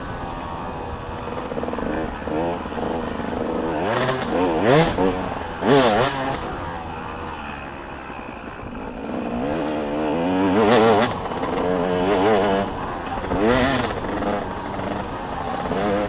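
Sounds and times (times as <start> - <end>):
dirt bikes revving: 0.0 - 16.0.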